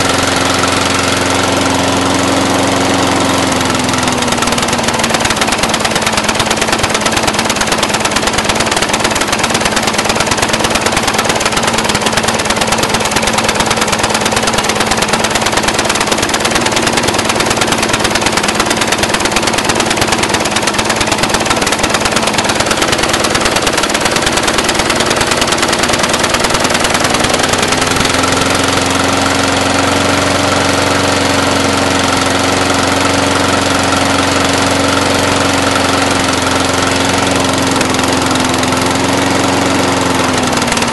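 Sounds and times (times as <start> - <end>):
lawn mower engine idling roughly: 0.0 - 40.9.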